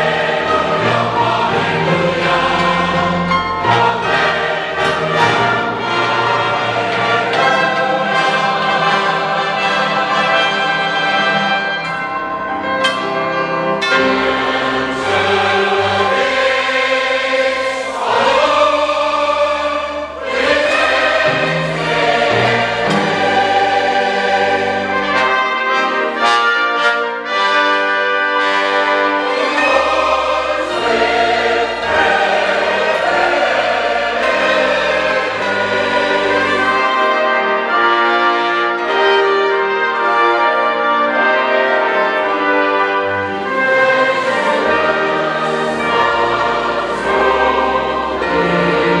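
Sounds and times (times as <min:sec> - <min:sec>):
large choir singing: 0:00.0 - 0:49.0
orchestra with brass: 0:00.0 - 0:49.0.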